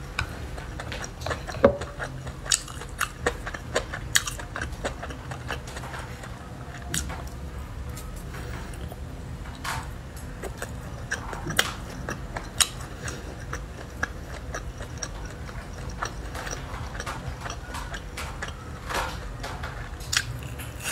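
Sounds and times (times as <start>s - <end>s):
steady low hum: 0.0s - 20.9s
close chewing with wet clicks: 0.1s - 20.9s.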